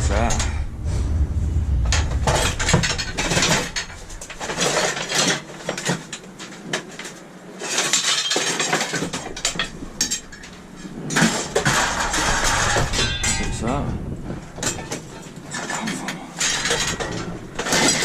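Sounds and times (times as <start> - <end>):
scrap metal clanking and rattling: 0.0 - 18.0.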